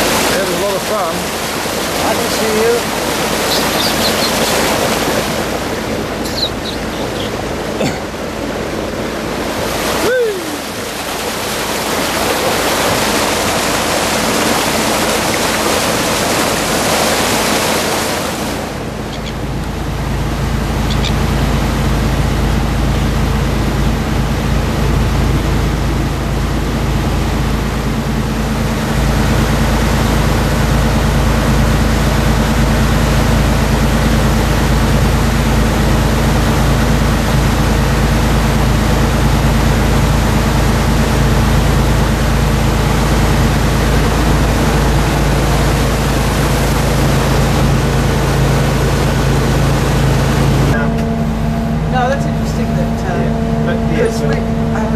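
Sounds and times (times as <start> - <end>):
boat engine humming: 0.0 - 54.9
water rushing along boat hull: 0.0 - 54.9
wind: 0.0 - 54.9.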